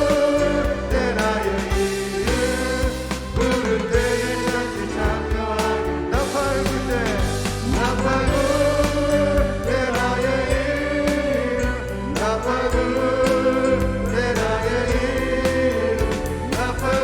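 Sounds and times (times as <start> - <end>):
band accompaniment: 0.0 - 17.0
group singing worship song: 0.0 - 17.0.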